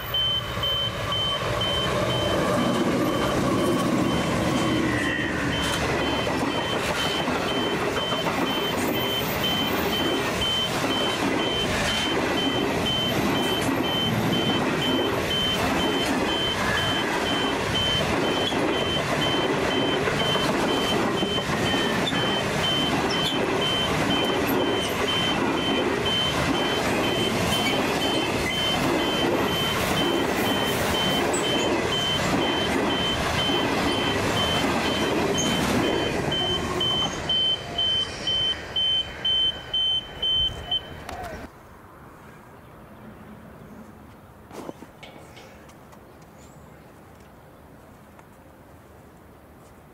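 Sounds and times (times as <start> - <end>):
high beeps: 0.0 - 41.1
train wheels rumbling on rails: 0.0 - 41.5.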